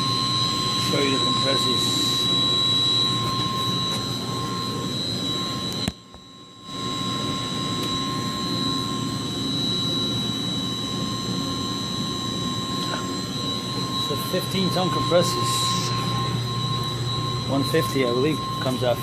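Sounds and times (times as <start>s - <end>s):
machinery drone with high whines: 0.0s - 19.0s.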